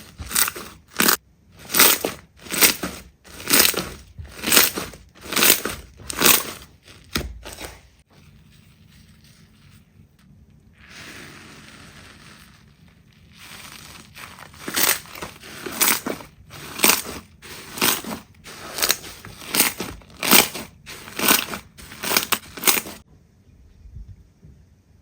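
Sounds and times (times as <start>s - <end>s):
slime squishing: 0.0s - 9.8s, 10.7s - 23.0s.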